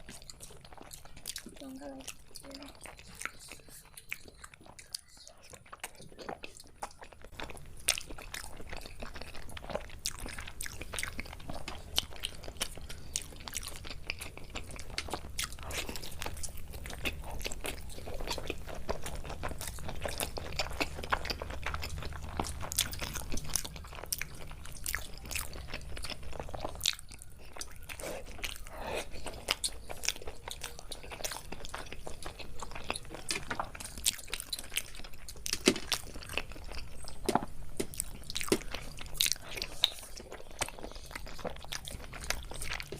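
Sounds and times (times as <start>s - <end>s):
people chewing and crunching food: 0.0s - 42.9s.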